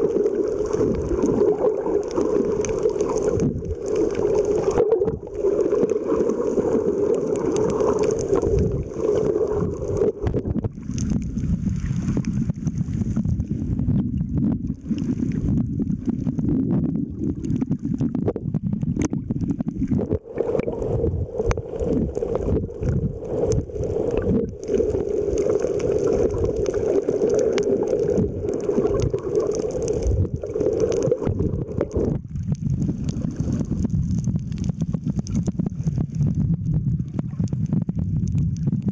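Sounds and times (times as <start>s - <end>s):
underwater rushing rumble: 0.0s - 38.9s.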